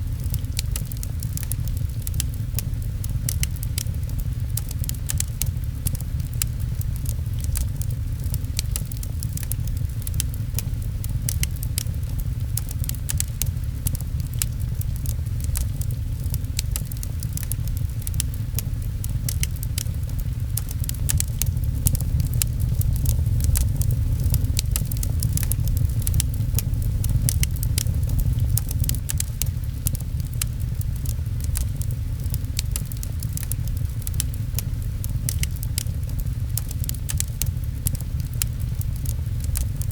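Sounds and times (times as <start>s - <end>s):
fireplace crackling: 0.0s - 39.9s
rain falling: 0.0s - 39.9s.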